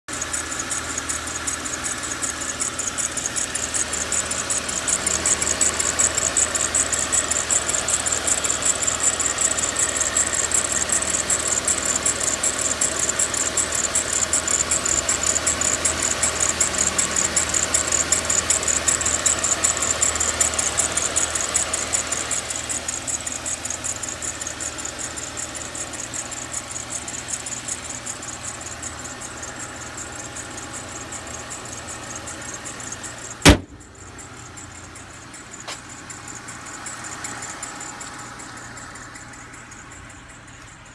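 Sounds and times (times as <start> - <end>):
car engine idling: 0.1 - 40.9.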